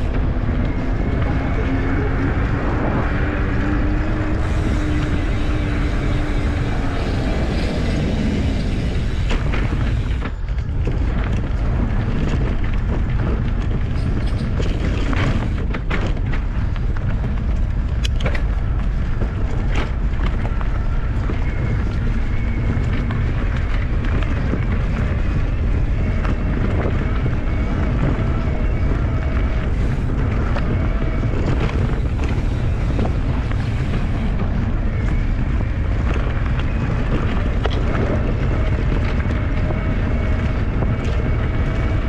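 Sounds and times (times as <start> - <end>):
bicycle rattling on bumpy ground: 0.0 - 42.0
tyre humming on asphalt: 0.0 - 42.0
wind rushing over microphone: 0.0 - 42.0.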